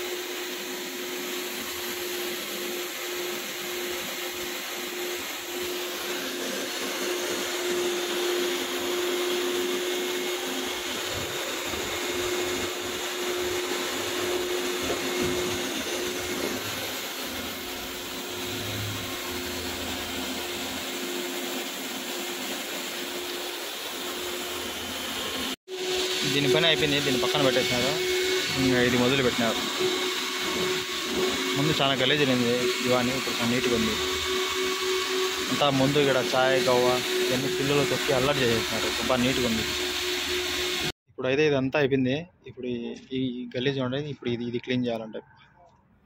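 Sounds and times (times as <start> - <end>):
wet vacuum sucking water: 0.0 - 41.0.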